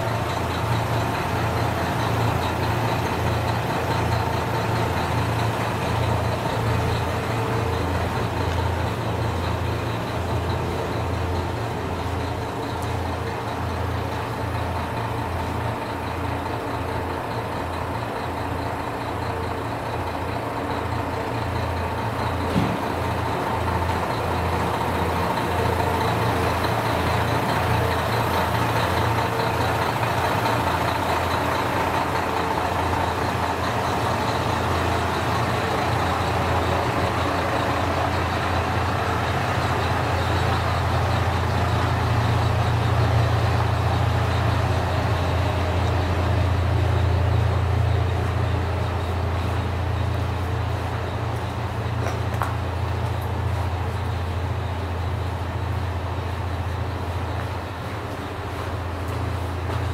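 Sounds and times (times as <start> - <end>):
diesel railcar engine idling: 0.0 - 59.9.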